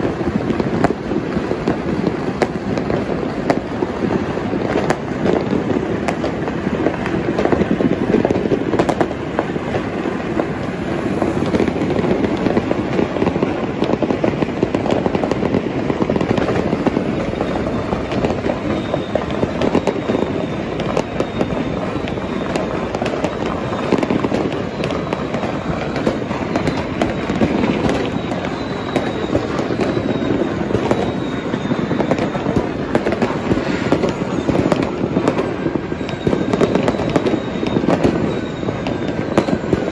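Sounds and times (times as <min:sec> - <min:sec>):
fireworks crackling and popping: 0:00.0 - 0:39.9
loud firework bangs: 0:00.0 - 0:39.9.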